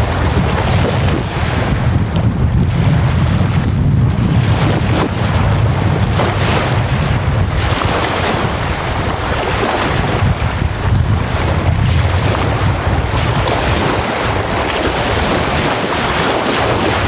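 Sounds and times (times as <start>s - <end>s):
waves washing onto sand: 0.0s - 17.0s
wind rumble on microphone: 0.0s - 17.0s.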